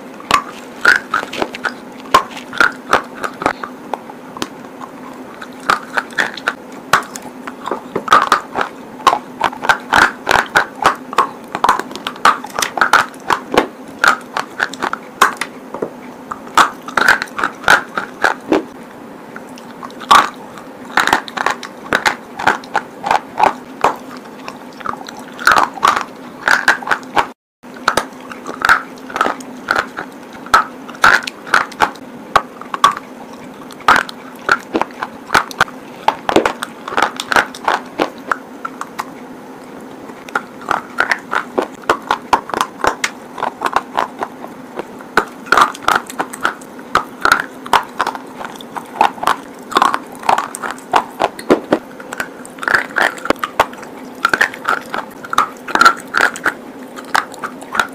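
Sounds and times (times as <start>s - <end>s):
crunchy chewing: 0.0s - 57.9s
faint steady hum: 0.0s - 57.9s.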